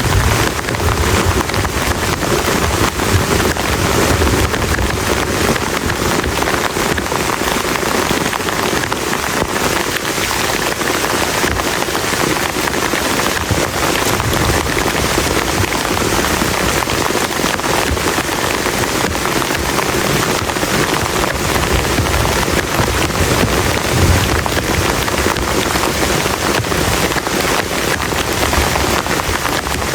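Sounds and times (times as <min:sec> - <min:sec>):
heavy rain on plastic tarp: 0:00.0 - 0:29.9.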